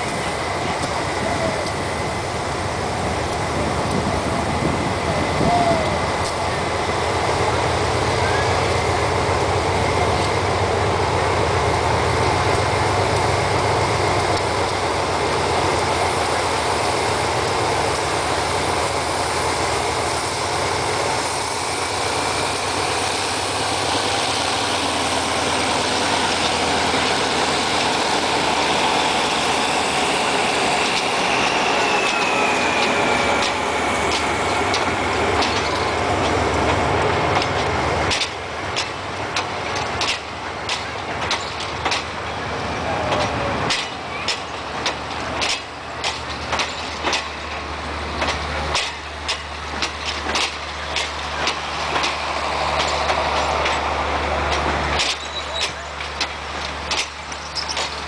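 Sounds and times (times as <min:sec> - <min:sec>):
diesel locomotive engine under load: 0:00.0 - 0:58.0
train wheels clicking over rail joints: 0:00.0 - 0:58.0.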